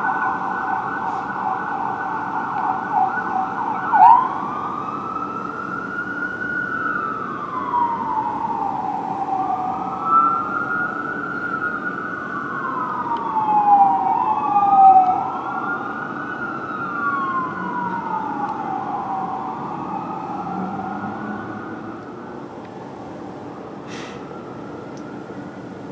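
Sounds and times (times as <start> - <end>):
fire engine siren wailing: 0.0 - 25.9.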